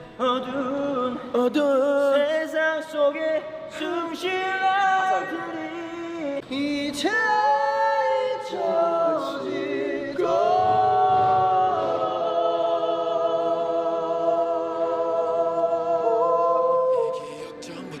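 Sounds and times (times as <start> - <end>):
voices singing in harmony: 0.0 - 18.0.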